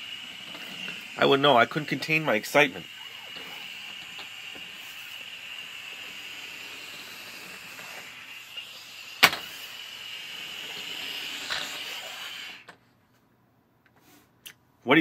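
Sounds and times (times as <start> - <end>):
air hissing out of balloon: 0.0 - 12.8.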